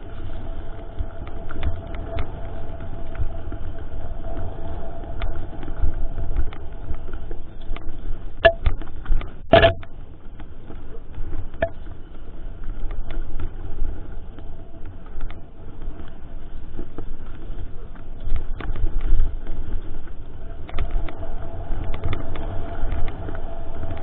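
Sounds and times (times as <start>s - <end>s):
mountain bike rumbling and rattling: 0.0s - 24.0s.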